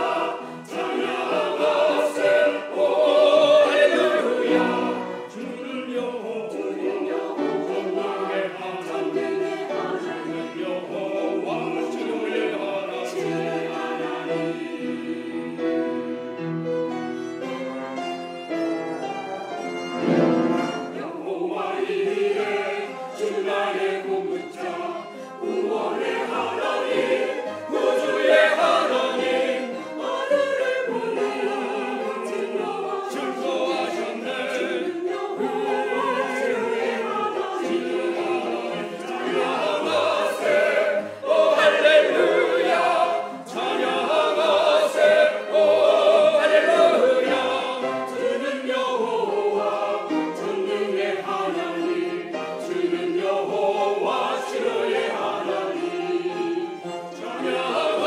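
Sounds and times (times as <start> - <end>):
choir singing: 0.0 - 58.0
small instrumental ensemble: 0.0 - 58.0.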